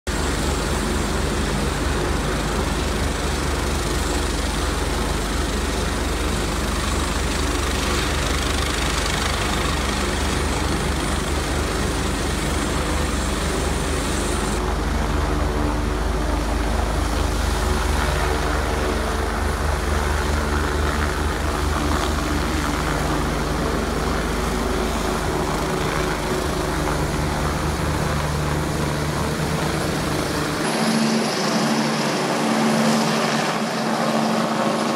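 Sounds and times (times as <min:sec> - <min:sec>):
helicopter rotor and turbine: 0:00.1 - 0:34.9.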